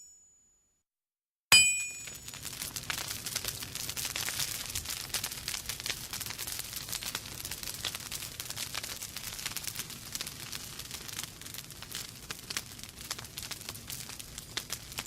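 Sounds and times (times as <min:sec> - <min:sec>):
campfire crackling: 0:02.0 - 0:15.0.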